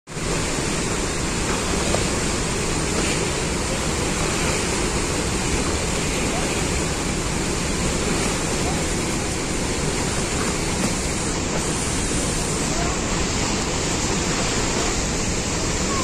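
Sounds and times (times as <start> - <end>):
water rushing from spillway: 0.1 - 16.0.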